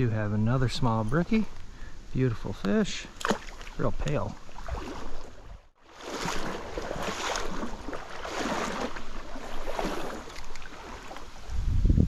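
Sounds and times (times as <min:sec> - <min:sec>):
stream water splashing and rushing: 0:00.0 - 0:11.7.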